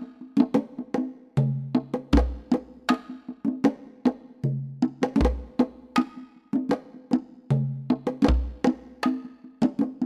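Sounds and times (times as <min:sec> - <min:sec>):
percussion-led music: 0:00.0 - 0:10.0.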